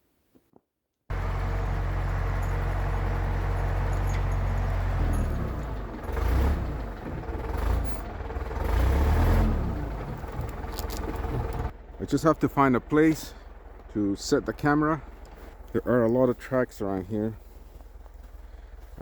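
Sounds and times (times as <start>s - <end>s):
backhoe diesel engine running: 1.1s - 19.0s.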